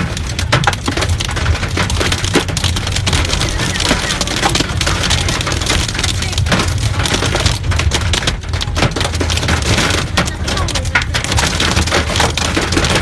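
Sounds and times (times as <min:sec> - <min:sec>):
hail and heavy rain on car roof: 0:00.0 - 0:13.0
low rumble of car driving: 0:00.0 - 0:13.0.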